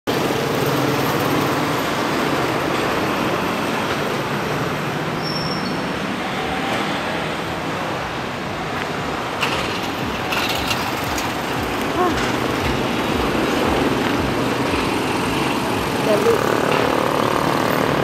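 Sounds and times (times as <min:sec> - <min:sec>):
road noise: 0:00.0 - 0:18.0
vehicle engine: 0:00.0 - 0:18.0.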